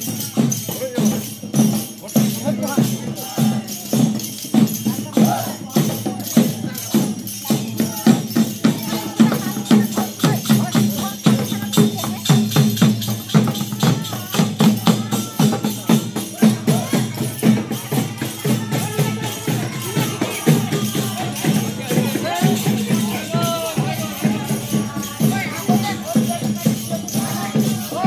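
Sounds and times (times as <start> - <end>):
drum beating quick rhythm: 0.0 - 28.0
rattling percussion: 0.0 - 28.0.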